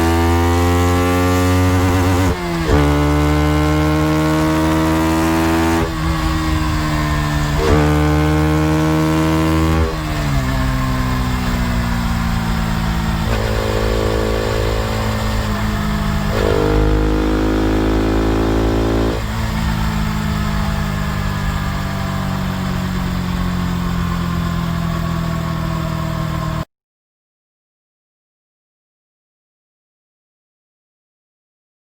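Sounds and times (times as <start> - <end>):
motorcycle engine revving: 0.0 - 26.7.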